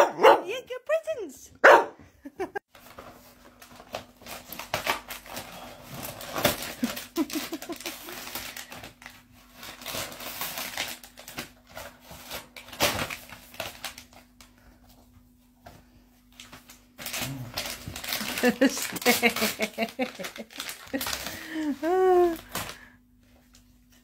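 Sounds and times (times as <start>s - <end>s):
wrapping rustling and crinkling: 2.7s - 24.0s.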